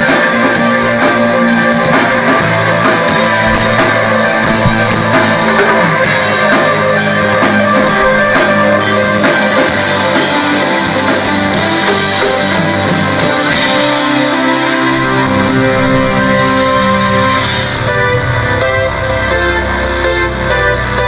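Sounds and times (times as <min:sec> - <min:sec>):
drum kit playing: 0:00.0 - 0:20.2
electric guitar: 0:00.0 - 0:21.0.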